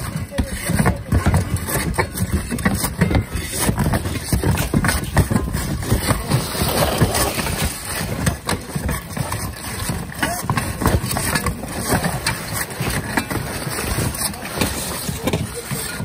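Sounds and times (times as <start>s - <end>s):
shovels scraping roof shingles: 0.0s - 16.0s.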